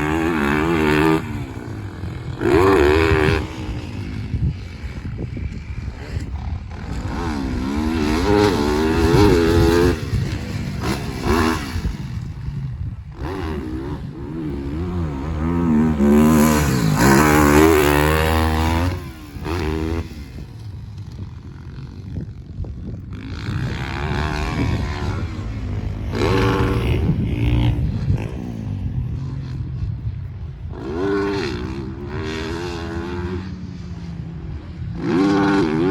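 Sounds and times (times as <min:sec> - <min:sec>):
motocross bike engine revving: 0:00.0 - 0:35.9.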